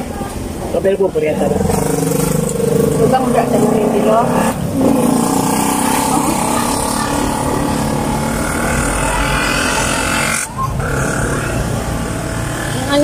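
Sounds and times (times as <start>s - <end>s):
vehicle engine noise: 0.0s - 13.0s.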